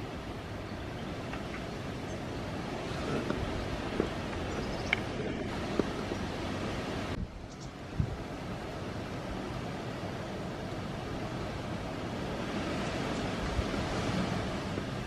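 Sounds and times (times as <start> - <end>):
wind noise on microphone: 0.0 - 10.0, 10.6 - 15.0.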